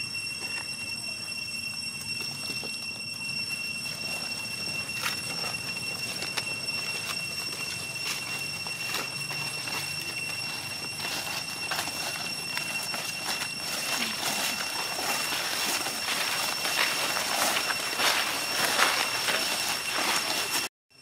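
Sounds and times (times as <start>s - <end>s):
steady high-pitched whine: 0.0s - 21.0s
dry leaves crunching underfoot: 3.8s - 20.7s.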